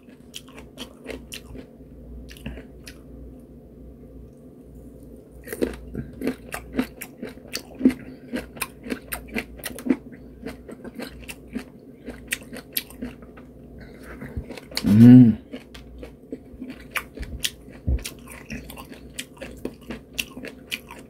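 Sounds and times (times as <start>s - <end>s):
person chewing wetly: 0.0s - 1.7s, 2.3s - 3.0s, 5.4s - 21.0s.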